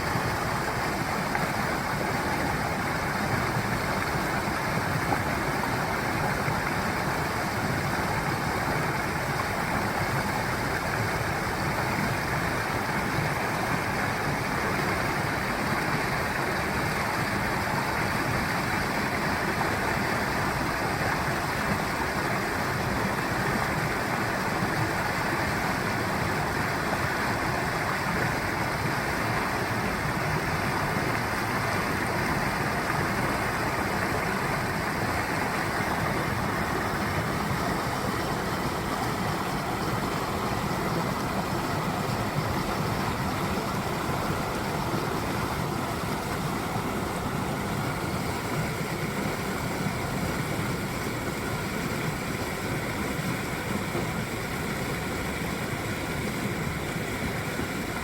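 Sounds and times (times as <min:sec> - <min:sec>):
stream water rushing over rocks: 0:00.0 - 0:58.0.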